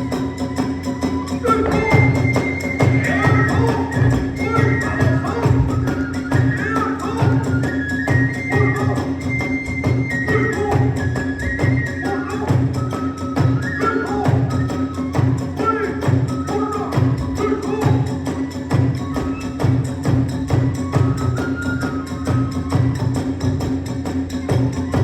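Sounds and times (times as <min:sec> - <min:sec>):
bamboo flute melody: 0:00.0 - 0:25.0
drum beats: 0:00.0 - 0:25.0.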